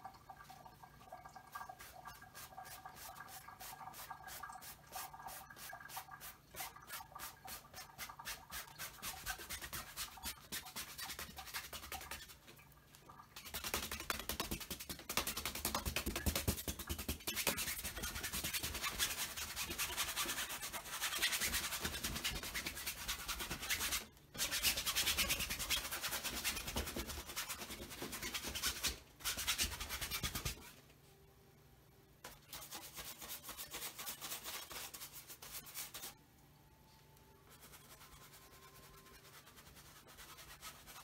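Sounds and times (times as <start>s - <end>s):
paintbrush scrubbing canvas: 1.5s - 12.5s, 13.4s - 30.7s, 32.4s - 36.2s, 37.5s - 41.0s.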